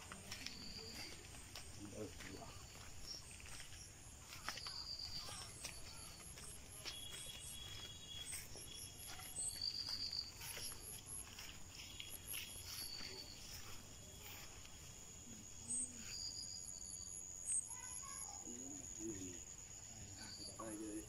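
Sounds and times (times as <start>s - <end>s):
rapid insect chirps: 0.0s - 21.0s
high-pitched insect drone: 0.3s - 21.0s.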